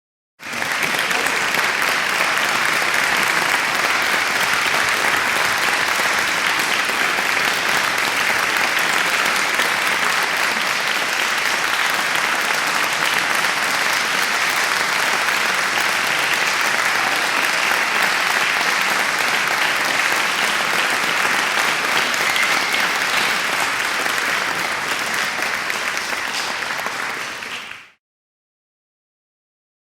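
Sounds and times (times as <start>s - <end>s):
large crowd applauding: 0.4s - 28.0s.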